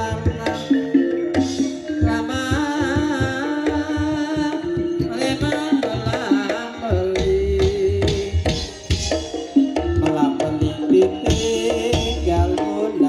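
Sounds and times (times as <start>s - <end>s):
hand drums playing busy rhythm: 0.0s - 13.0s
pitched melodic instruments: 0.0s - 13.0s
wavering melody line: 0.0s - 13.0s.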